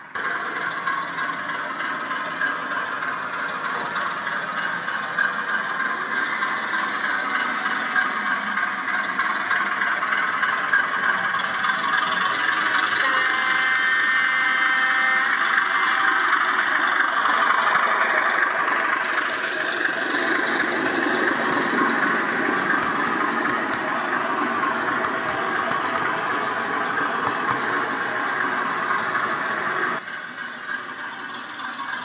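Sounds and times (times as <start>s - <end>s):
rumble of coach wheels: 0.0s - 13.0s, 15.4s - 32.0s
model train running: 0.0s - 32.0s.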